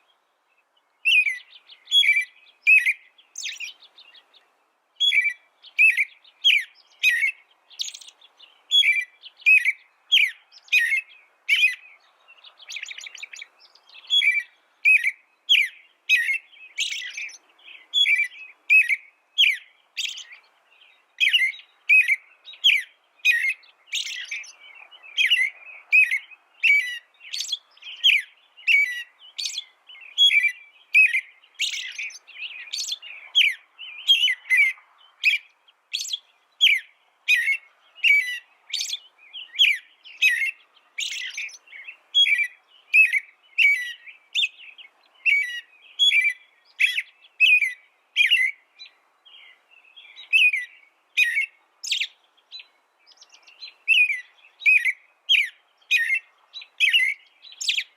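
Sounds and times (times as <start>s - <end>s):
songbird chirping: 0.0s - 57.9s
bird trill: 1.0s - 57.9s.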